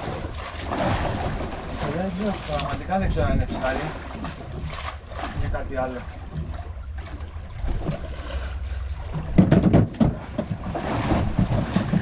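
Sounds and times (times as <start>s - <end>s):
water sloshing against boat hull: 0.0s - 12.0s
wind rumbling on microphone: 0.0s - 12.0s.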